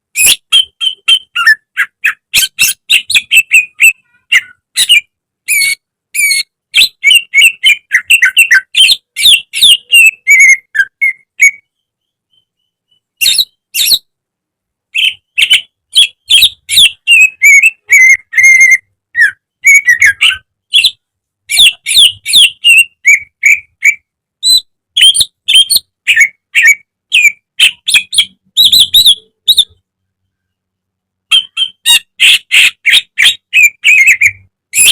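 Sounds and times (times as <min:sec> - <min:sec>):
bird singing chirps and whistles: 0:00.2 - 0:14.1, 0:15.0 - 0:29.8, 0:31.3 - 0:34.9.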